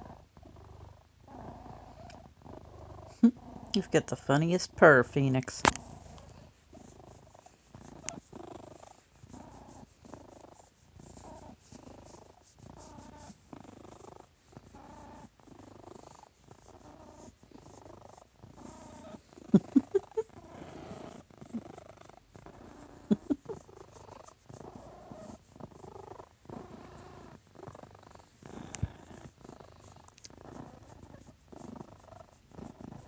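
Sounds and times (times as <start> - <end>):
cat purring: 0.0 - 33.0.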